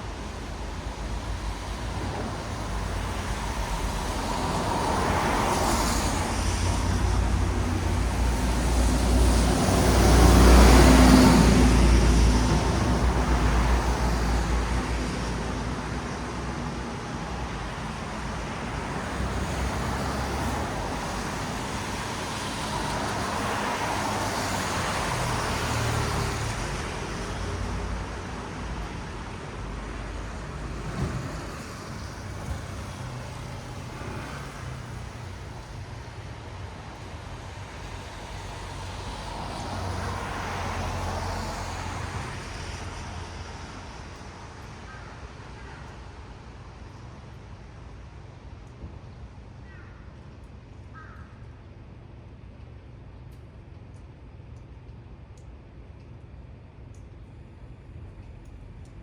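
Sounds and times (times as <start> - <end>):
tyres hissing on wet road: 0.0 - 48.5.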